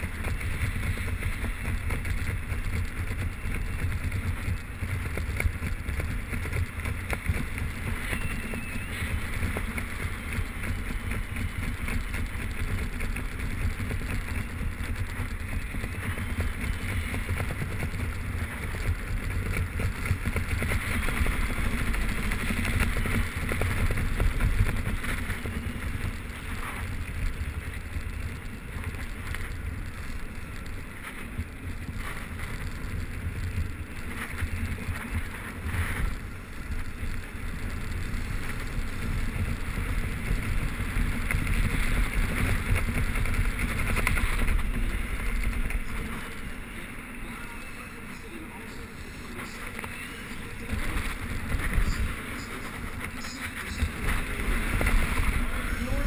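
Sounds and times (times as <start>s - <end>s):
wind buffeting microphone: 0.0s - 47.2s.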